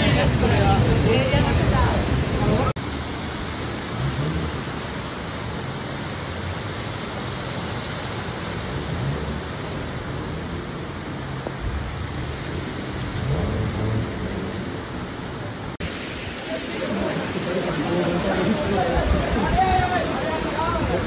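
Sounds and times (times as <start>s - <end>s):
heavy rain downpour: 0.0s - 21.0s.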